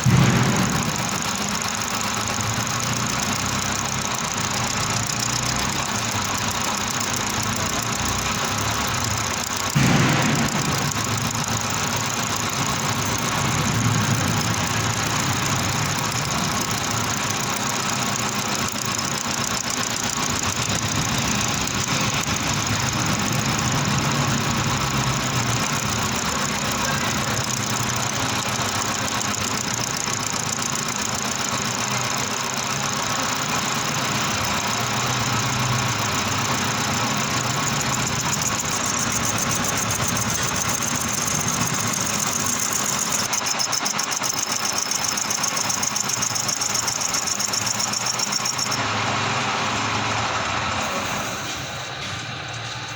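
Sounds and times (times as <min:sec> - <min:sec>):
metal lathe running: 0:00.0 - 0:52.9.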